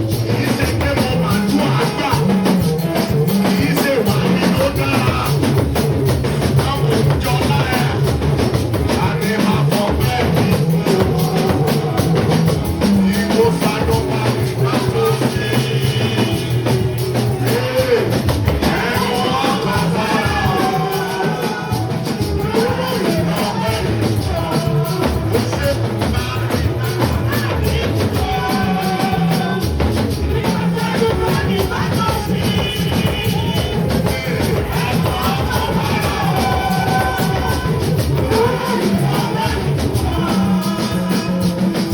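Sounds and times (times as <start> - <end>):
voices singing: 0.0 - 41.9
worship band with drums and bass: 0.0 - 41.9.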